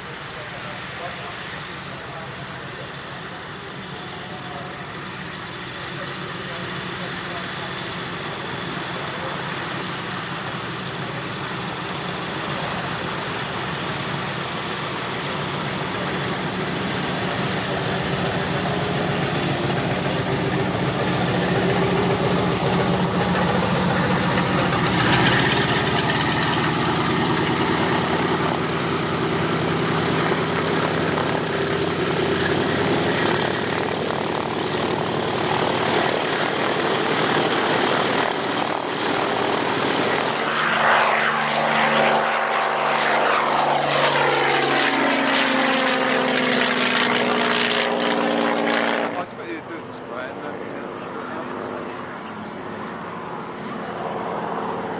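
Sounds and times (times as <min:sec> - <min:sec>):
propeller aircraft flying past: 0:00.0 - 0:54.9.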